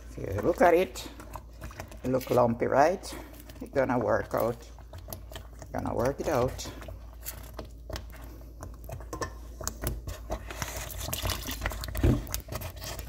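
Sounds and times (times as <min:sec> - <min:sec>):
thick porridge squelching: 0:00.0 - 0:13.0.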